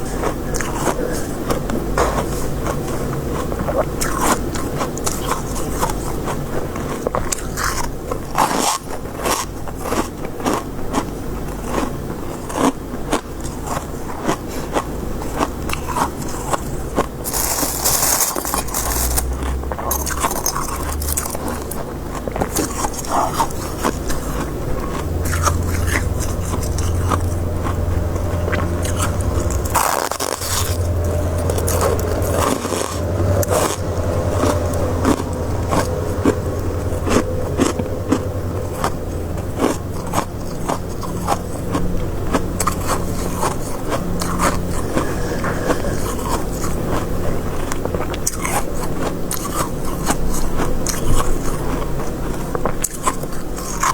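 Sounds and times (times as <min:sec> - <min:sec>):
low steady hum: 0:00.0 - 0:53.9
shaved ice being chewed: 0:00.0 - 0:53.9.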